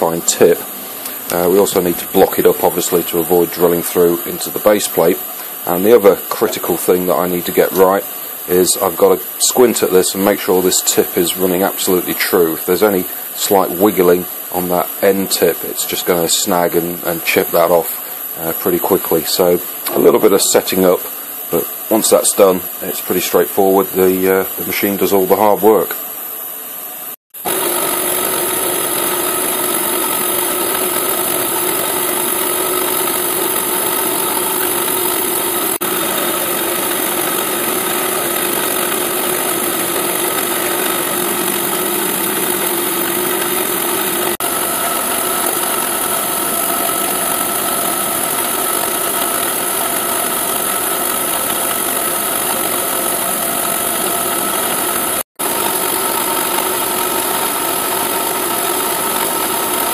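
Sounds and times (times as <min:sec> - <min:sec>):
milling machine humming: 0:00.0 - 0:59.9.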